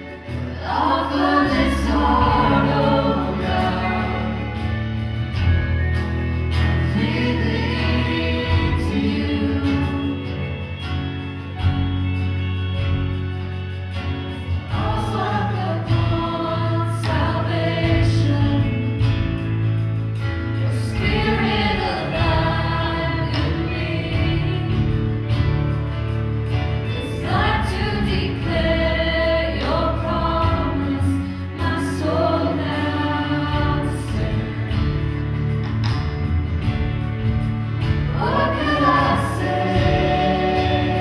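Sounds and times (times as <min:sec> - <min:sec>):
voices singing together: 0:00.0 - 0:11.0, 0:14.4 - 0:19.6, 0:20.2 - 0:25.7, 0:26.8 - 0:35.4, 0:37.8 - 0:41.0
bass: 0:00.0 - 0:41.0
keyboard: 0:00.0 - 0:41.0
strummed acoustic guitar: 0:00.0 - 0:41.0.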